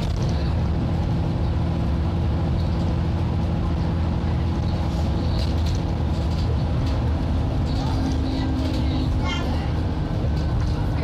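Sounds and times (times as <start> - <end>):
bus diesel engine droning: 0.0 - 11.0
road noise: 0.0 - 11.0.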